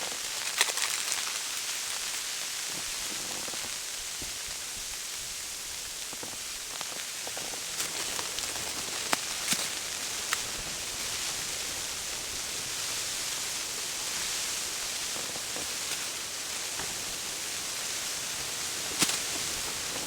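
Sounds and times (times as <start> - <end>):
wind and blowing snow hiss: 0.0 - 20.0.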